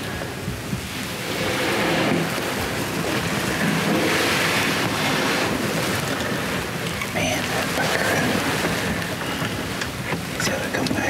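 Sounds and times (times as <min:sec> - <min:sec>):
rushing outdoor noise: 0:00.0 - 0:11.0.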